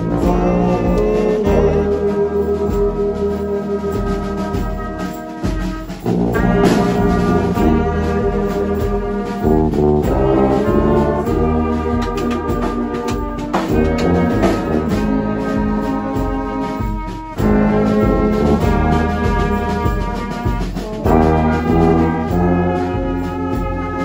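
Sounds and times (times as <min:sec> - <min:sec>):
brass band playing: 0:00.0 - 0:24.0.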